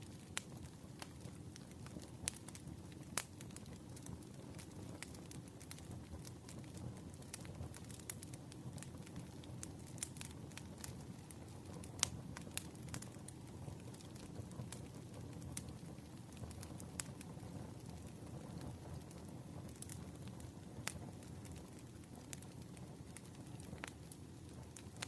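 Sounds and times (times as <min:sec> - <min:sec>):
burning logs crackling and popping: 0:00.0 - 0:25.0
low rumble of flames: 0:00.0 - 0:25.0.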